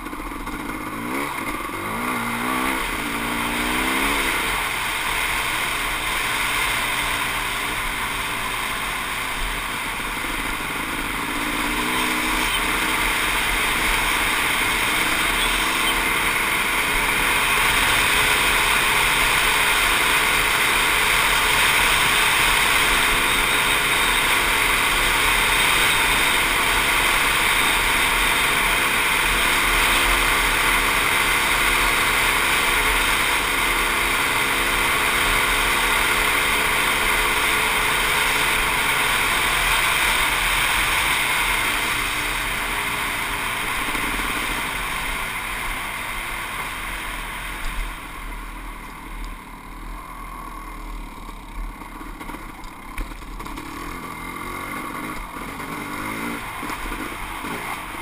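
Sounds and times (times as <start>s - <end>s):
dirt bike engine running: 0.0s - 58.0s
wind: 0.0s - 58.0s.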